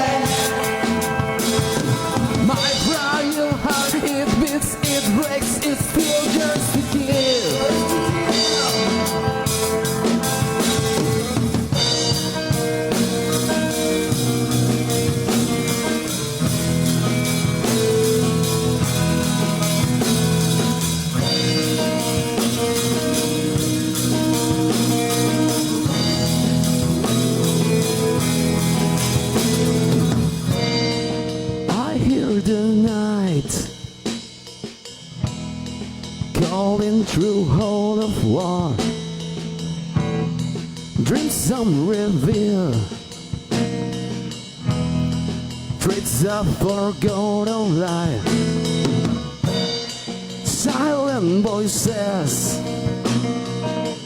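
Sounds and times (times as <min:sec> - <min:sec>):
bending guitar melody: 0:00.0 - 0:54.0
rock band playing: 0:00.0 - 0:54.0.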